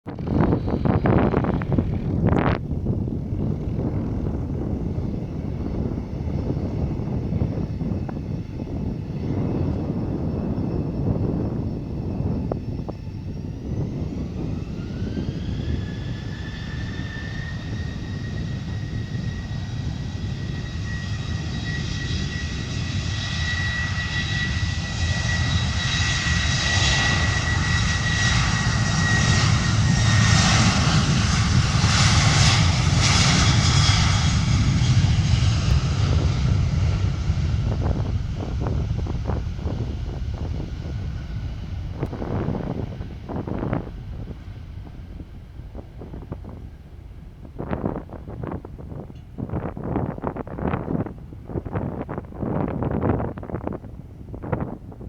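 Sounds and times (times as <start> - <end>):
jet engine deep roar: 0.0 - 55.0
jet engine high whine: 0.0 - 55.0.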